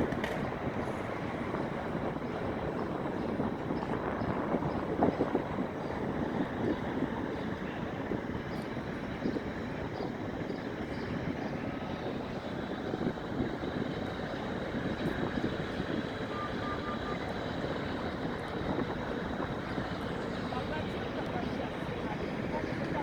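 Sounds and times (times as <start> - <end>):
city traffic hum: 0.0 - 23.0.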